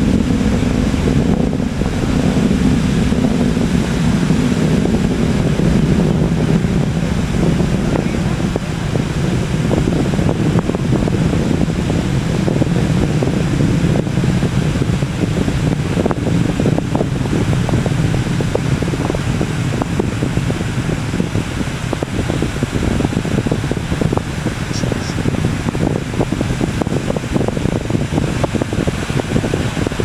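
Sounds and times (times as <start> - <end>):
distant rocket engine rumble: 0.0 - 30.0.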